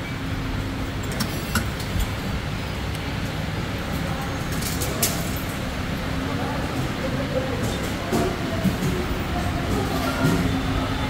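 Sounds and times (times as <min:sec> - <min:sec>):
low rumble of vehicles: 0:00.0 - 0:11.0.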